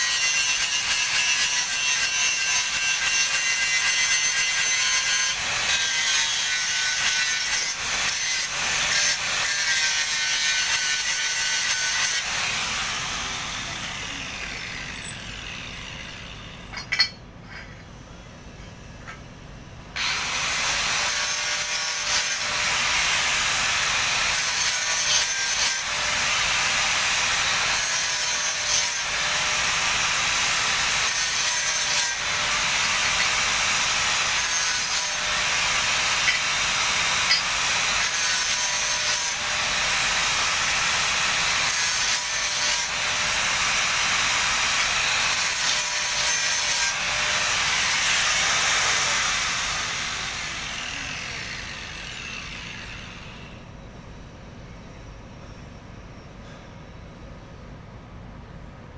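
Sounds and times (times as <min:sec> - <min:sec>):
angle grinder grinding steel: 0:00.0 - 0:17.8, 0:20.0 - 0:53.6.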